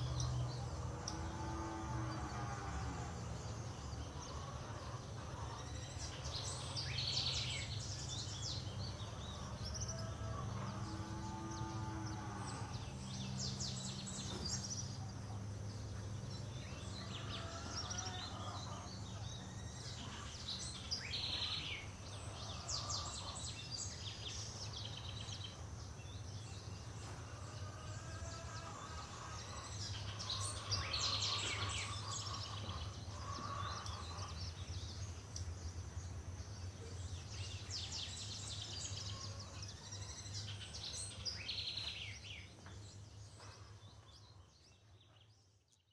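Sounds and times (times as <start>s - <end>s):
birds trilling and chirping: 0.0s - 45.7s.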